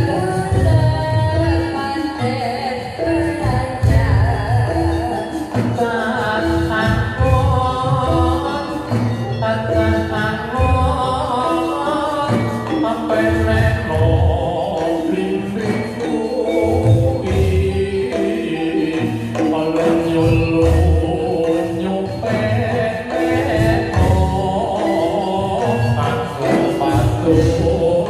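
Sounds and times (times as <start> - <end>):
metal-keyed percussion notes: 0.0 - 28.0
person singing: 0.0 - 28.0.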